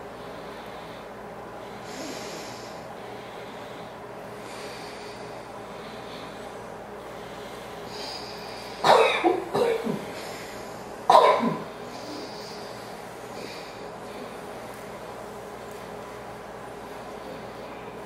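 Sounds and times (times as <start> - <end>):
soft hissing nasal inhale: 0.0 - 16.2.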